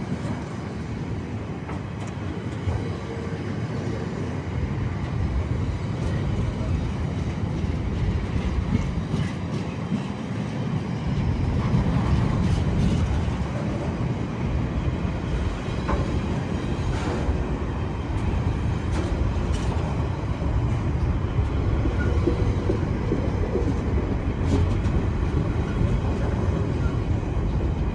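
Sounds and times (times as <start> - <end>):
train clicks: 0.0 - 27.9
train wheels rumbling: 0.0 - 27.9.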